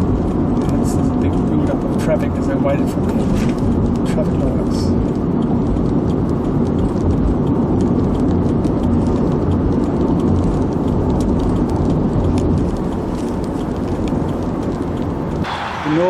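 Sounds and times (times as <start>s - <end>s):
vehicle rumble from inside cabin: 0.0s - 16.0s
faint ticks: 0.6s - 15.5s.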